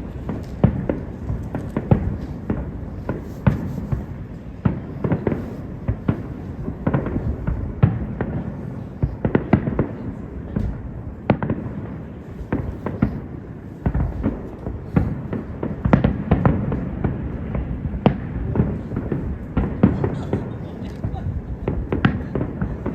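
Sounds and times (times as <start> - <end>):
continuous low rumble: 0.0 - 22.9
fireworks bangs: 0.0 - 22.9.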